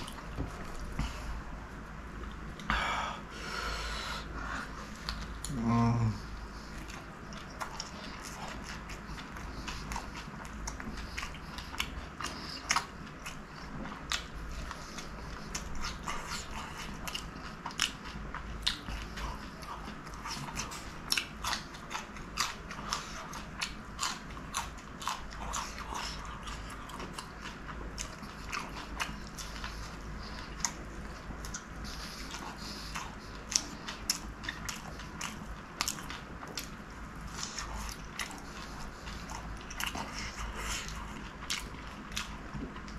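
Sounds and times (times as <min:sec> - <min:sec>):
chewing crunchy food: 0:00.0 - 0:02.7, 0:04.2 - 0:42.9.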